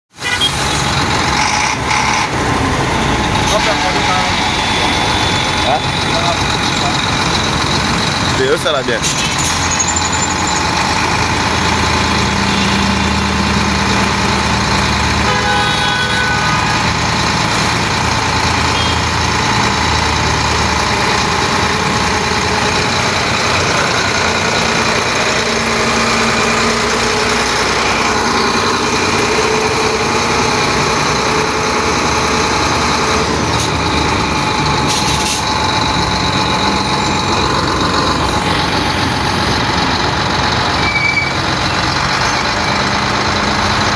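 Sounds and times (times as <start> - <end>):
diesel truck engine running: 0.1 - 43.9.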